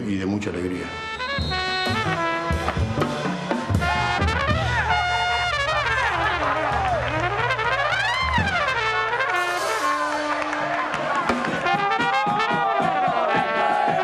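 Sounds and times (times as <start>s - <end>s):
brass-led background music: 0.1s - 14.0s.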